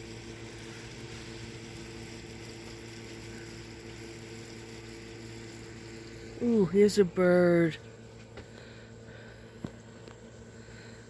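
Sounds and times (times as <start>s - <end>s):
low mechanical hum: 0.0s - 11.0s
steady hiss: 0.0s - 11.0s.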